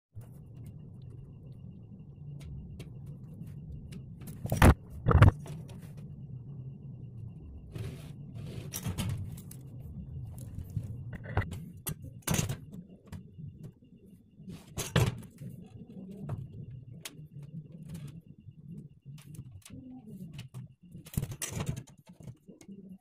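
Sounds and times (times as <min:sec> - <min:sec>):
low steady hum: 0:00.2 - 0:23.0.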